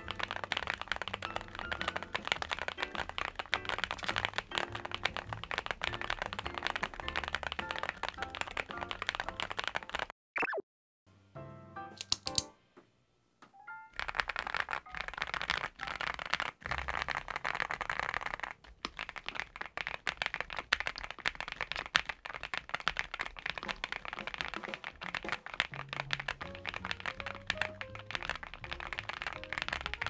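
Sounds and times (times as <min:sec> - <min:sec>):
mechanical keyboard typing: 0:00.0 - 0:10.1, 0:12.0 - 0:12.5, 0:13.9 - 0:30.0.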